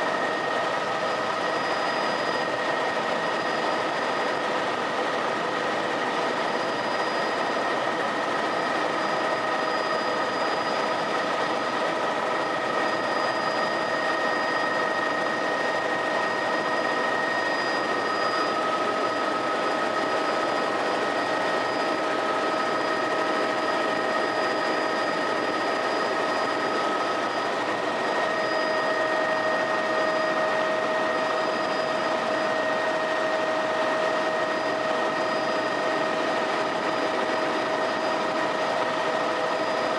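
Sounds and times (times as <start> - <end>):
constant high whine: 0.0 - 39.9
helicopter engine and rotor noise: 0.0 - 39.9.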